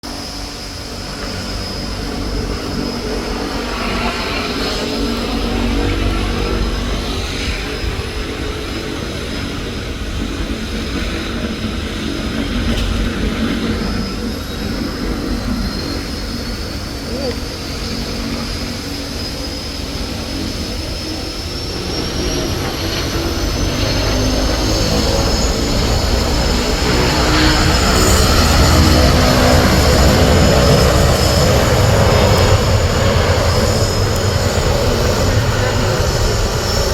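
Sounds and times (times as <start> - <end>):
airplane engines rumbling: 0.0 - 36.9
high engine whine: 0.0 - 36.9.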